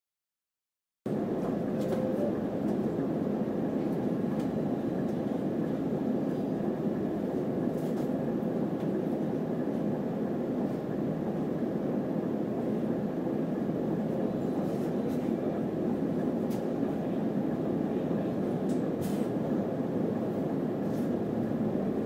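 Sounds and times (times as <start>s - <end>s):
bus engine and road noise: 1.1s - 22.0s.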